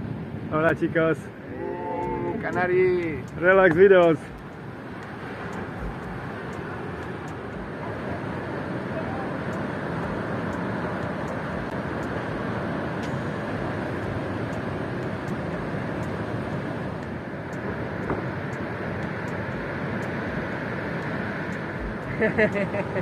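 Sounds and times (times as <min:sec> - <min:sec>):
outdoor rushing noise: 0:00.0 - 0:23.0.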